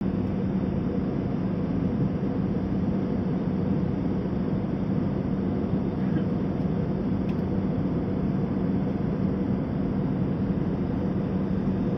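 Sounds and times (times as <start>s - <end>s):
jet engine drone in cabin: 0.0s - 11.9s.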